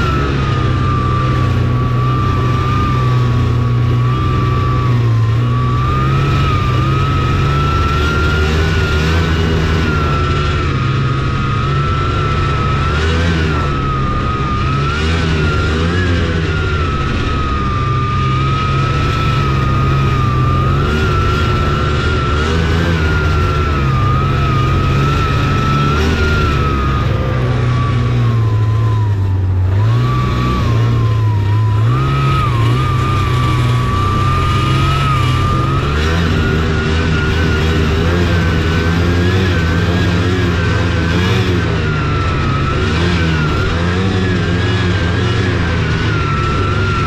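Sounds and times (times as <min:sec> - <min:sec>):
high whine: 0:00.0 - 0:47.0
snowmobile engine running: 0:00.0 - 0:47.0.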